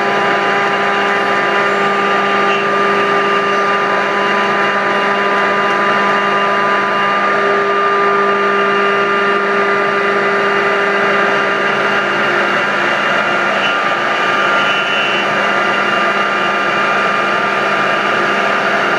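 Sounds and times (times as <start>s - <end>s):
cnc router whirring: 0.0s - 18.9s.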